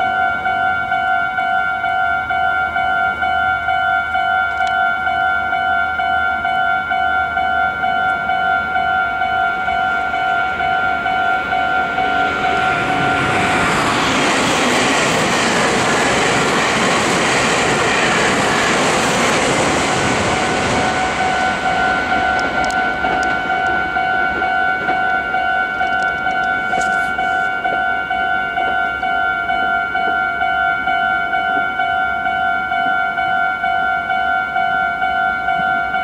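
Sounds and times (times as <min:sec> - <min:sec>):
level-crossing warning bell: 0:00.0 - 0:36.0
train rail noise: 0:00.0 - 0:36.0.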